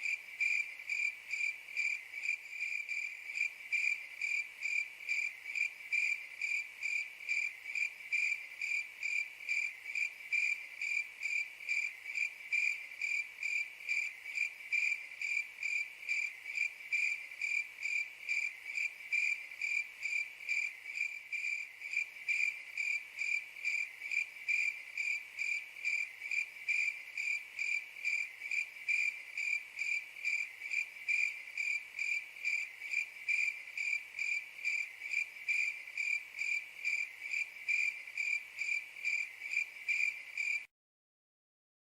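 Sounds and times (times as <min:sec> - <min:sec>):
cricket chirping: 0:00.0 - 0:40.7.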